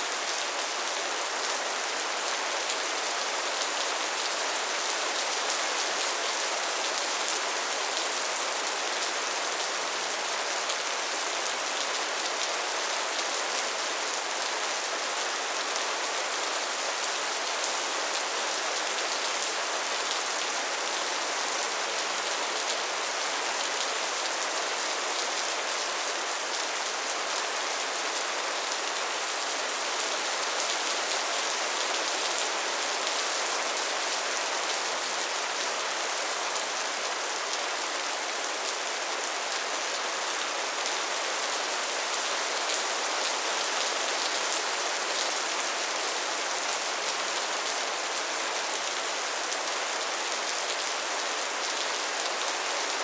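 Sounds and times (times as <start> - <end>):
soft rain falling: 0.0 - 53.0.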